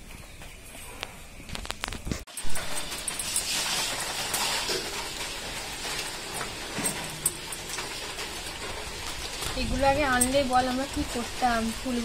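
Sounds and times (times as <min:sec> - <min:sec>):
rain hissing: 0:02.3 - 0:12.0.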